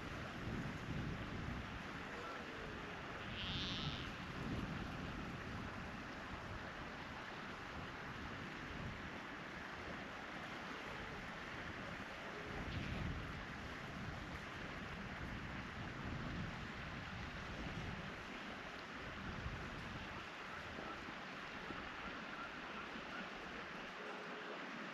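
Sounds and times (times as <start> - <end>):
wind rumbling on microphone: 0.0 - 23.9
steady outdoor hiss: 0.0 - 24.9.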